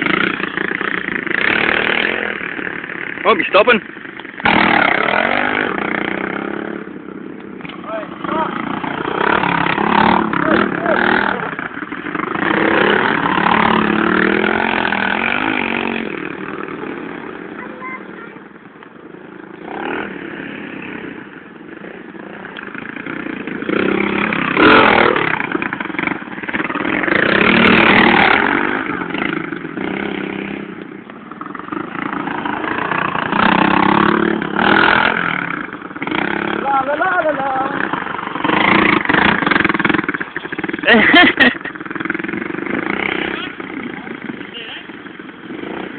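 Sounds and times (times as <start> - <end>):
pit bike engines revving: 0.0 - 45.9.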